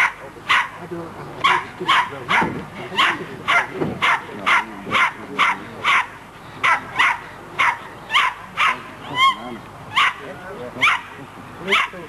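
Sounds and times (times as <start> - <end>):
dog barking: 0.0 - 0.8, 1.5 - 9.2, 9.9 - 12.0.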